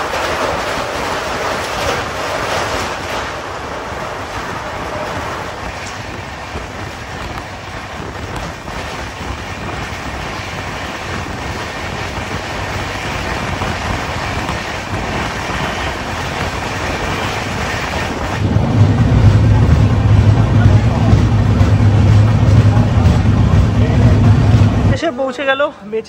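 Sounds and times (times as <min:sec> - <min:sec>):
train wheels rolling on rails: 0:00.0 - 0:25.2.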